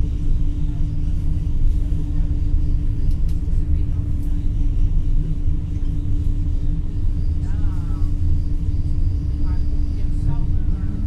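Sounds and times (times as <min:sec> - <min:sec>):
constant hum: 0:00.0 - 0:11.0
faint passenger voices: 0:00.0 - 0:11.0
train rumbling on rails: 0:00.0 - 0:11.0.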